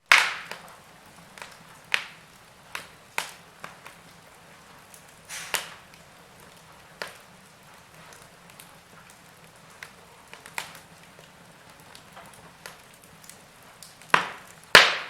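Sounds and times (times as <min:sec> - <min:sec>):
fire crackling and popping: 0:00.0 - 0:15.0
faint hiss: 0:00.6 - 0:15.0.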